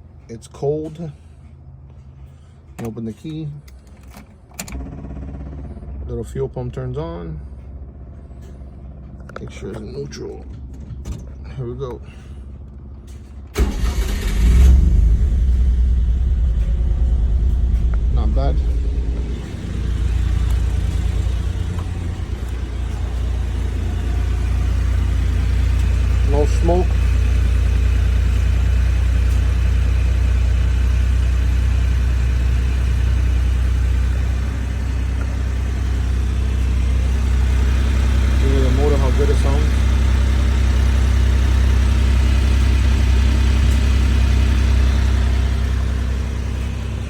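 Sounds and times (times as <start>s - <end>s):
car engine starting and idling: 0.1s - 47.0s.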